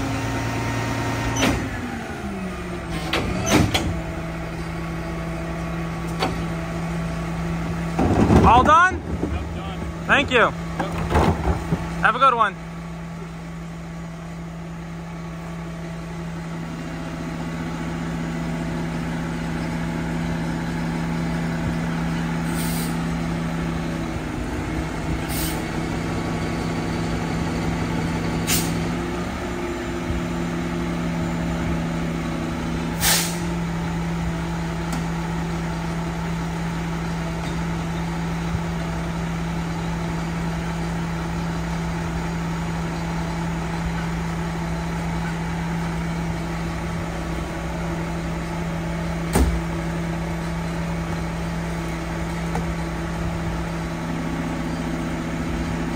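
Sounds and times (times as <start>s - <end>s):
garbage truck idling: 0.0s - 55.9s.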